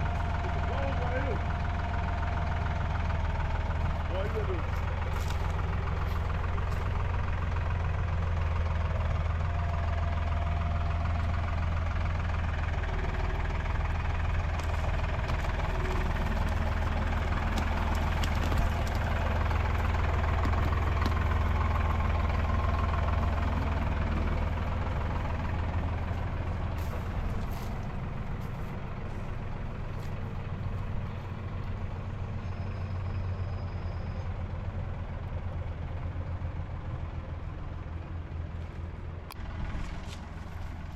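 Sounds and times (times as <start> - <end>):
engine running low hum: 0.0 - 40.9.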